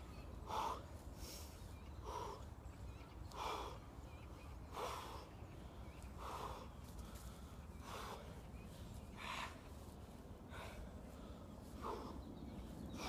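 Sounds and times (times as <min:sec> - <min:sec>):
man breathing hard: 0:00.4 - 0:13.0.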